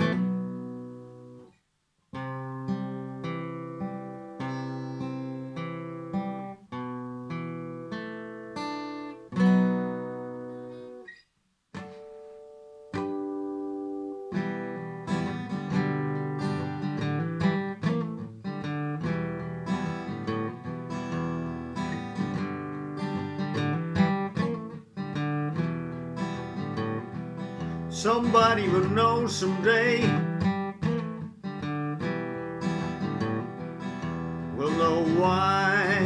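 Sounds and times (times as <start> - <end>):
acoustic guitar playing: 0.0 - 36.0.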